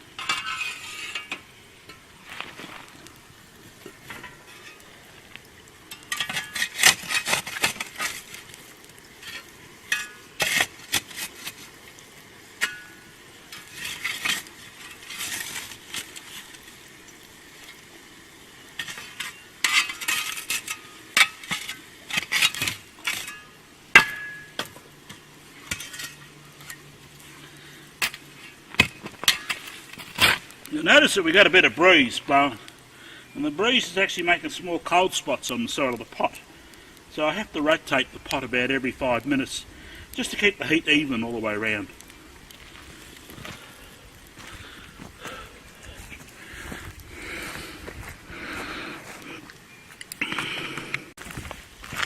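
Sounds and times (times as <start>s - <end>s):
metal scraping on cast iron pot: 0.0s - 16.8s, 18.7s - 47.6s.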